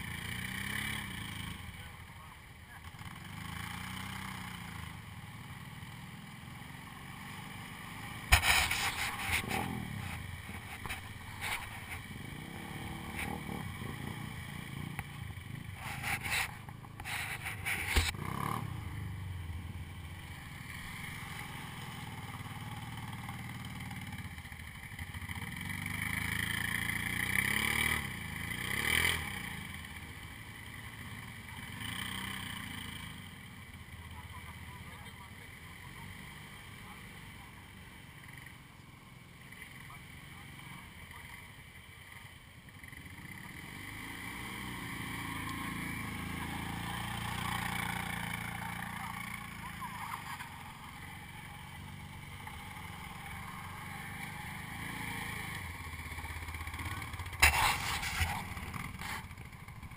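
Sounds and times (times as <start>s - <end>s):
atv engines idling and revving: 0.0s - 59.9s.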